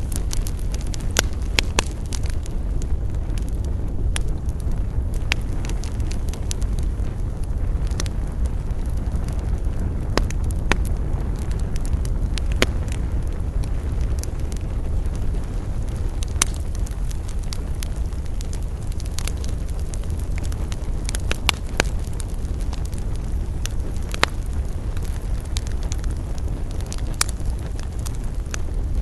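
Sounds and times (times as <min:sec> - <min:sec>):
campfire wood pops: 0:00.0 - 0:29.0
low rumble: 0:00.0 - 0:29.0.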